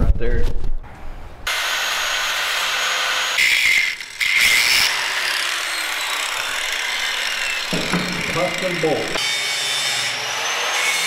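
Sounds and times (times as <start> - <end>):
grinder grinding metal: 1.5 - 11.0.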